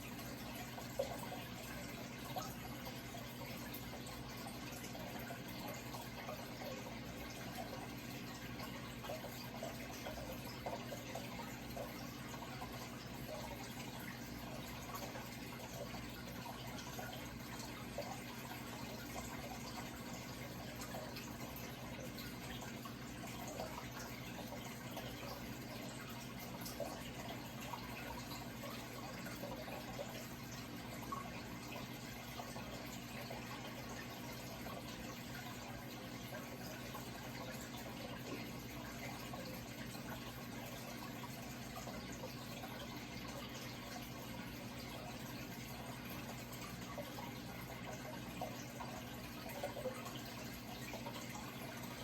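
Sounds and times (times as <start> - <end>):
low steady hum: 0.0 - 52.0
water running and trickling: 0.0 - 52.0.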